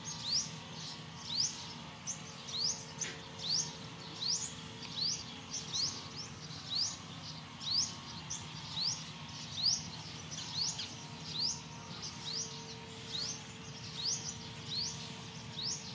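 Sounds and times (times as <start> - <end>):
small bird chirping: 0.0 - 15.9.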